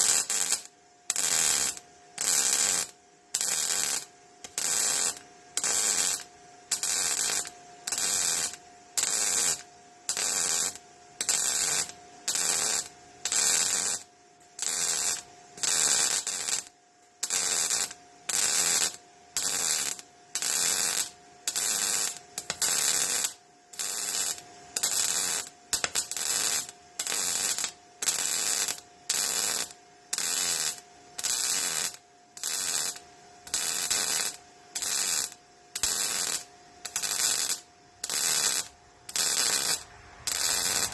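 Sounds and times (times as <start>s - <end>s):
steady hum: 0.0s - 22.6s, 23.2s - 40.9s
welder arc crackling: 0.0s - 40.9s.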